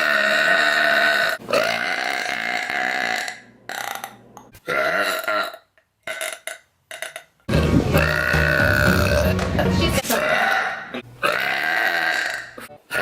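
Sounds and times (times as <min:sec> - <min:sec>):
woman burping loudly: 0:00.0 - 0:09.4, 0:10.0 - 0:13.0.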